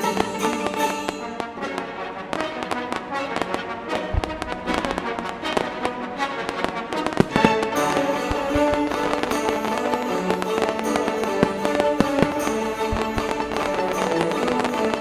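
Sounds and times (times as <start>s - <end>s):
fireworks bangs: 0.0s - 15.0s
fireworks crackling and popping: 0.0s - 15.0s.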